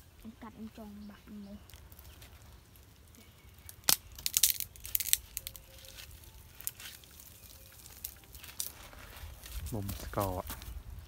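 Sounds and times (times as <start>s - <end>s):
leaves rustling: 0.0s - 11.0s
twigs snapping: 1.6s - 10.8s.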